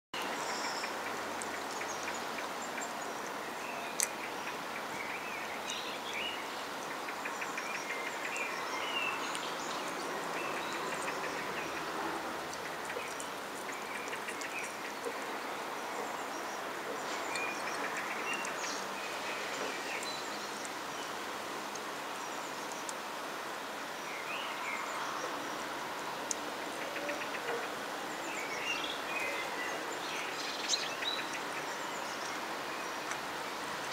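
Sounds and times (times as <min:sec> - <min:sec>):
outdoor background noise: 0:00.2 - 0:33.9
small birds chirping: 0:00.2 - 0:33.9.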